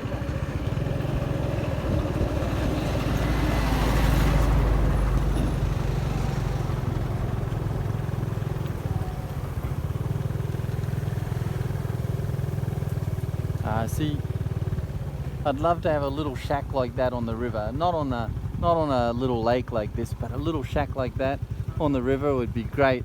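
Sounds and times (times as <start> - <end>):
motorbike engine running: 0.0 - 23.0
wind and road noise: 0.0 - 23.0.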